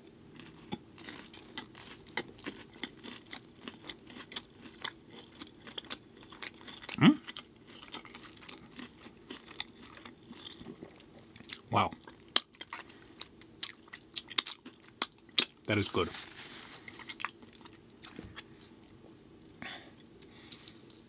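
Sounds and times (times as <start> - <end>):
chewing with crunching and mouth clicks: 0.4 - 15.7, 16.8 - 18.6.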